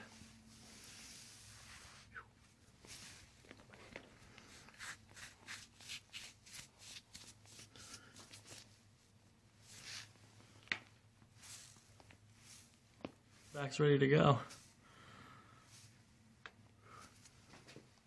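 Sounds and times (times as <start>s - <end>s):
faint rustling handling sounds: 0.0s - 18.0s.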